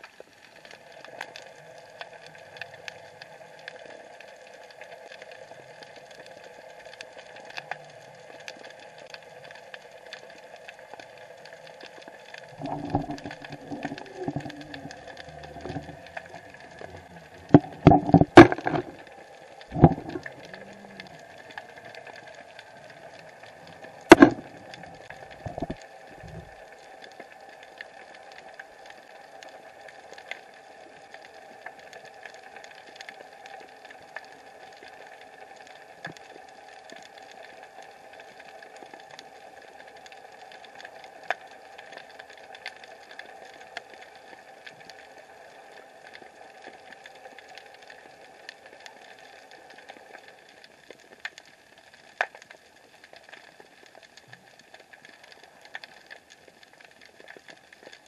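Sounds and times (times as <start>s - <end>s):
underwater hum and hiss: 0.0s - 58.0s.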